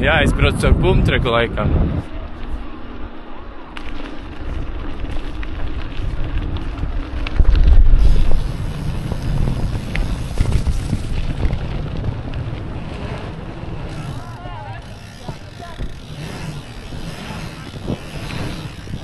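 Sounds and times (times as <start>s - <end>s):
wind buffeting microphone: 0.0s - 19.0s
bike clicks and rattles: 2.0s - 19.0s
tyres rumbling on gravel: 2.0s - 19.0s.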